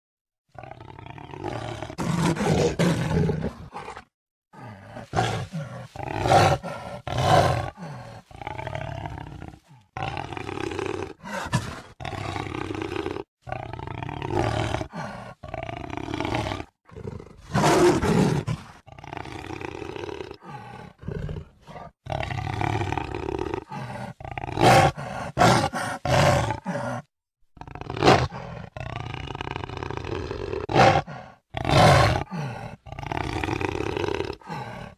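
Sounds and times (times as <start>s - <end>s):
jaguar roaring: 0.5s - 34.9s.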